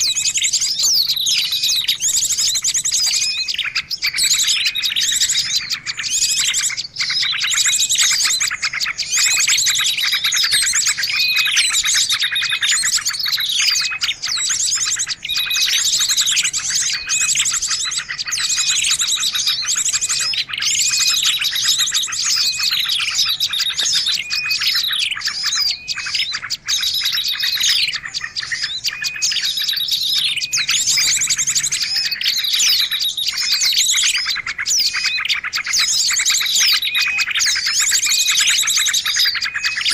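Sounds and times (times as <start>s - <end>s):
chorus of small birds calling: 0.0s - 39.9s.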